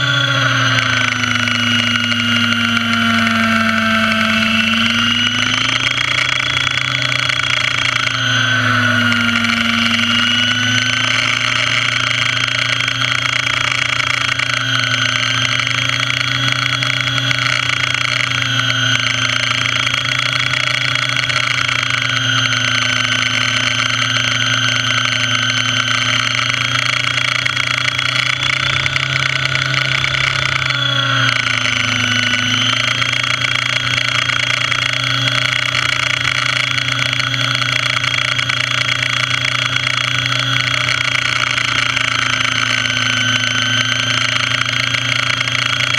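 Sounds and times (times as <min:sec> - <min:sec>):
model helicopter rotor whine: 0:00.0 - 0:45.9.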